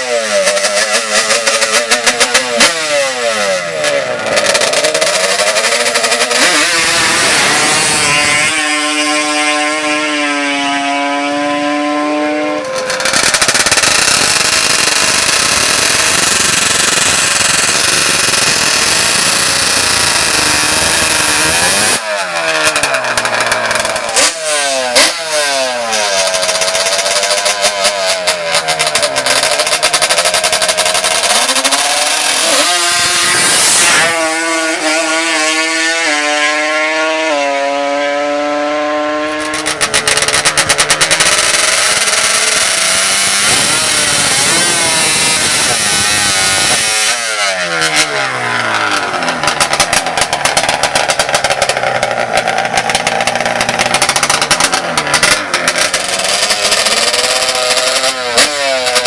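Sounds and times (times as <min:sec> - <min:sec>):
atv engines revving: 0:00.0 - 0:59.0.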